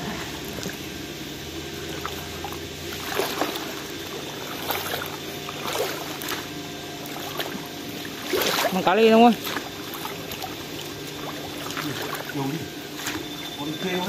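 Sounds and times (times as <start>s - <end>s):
water sloshing and splashing: 0.0s - 13.9s
low steady hum: 0.0s - 14.0s.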